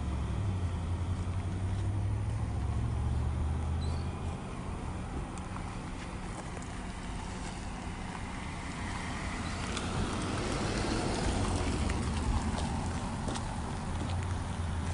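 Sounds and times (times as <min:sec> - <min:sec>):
car engine and tyre noise: 0:00.0 - 0:14.9.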